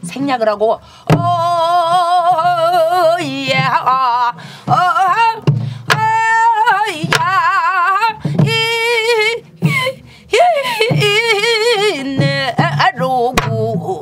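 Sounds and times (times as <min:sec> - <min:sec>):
woman singing with vibrato: 0:00.0 - 0:14.0
stick striking barrel drum: 0:01.1 - 0:10.0, 0:10.8 - 0:14.0.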